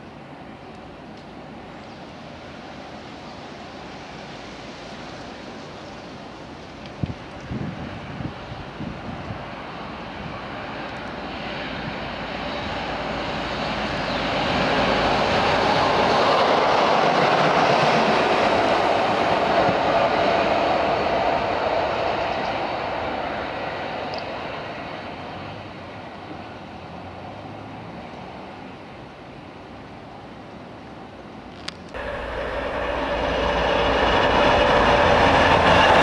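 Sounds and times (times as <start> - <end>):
locomotives passing at speed: 1.4 - 29.6, 31.8 - 36.0.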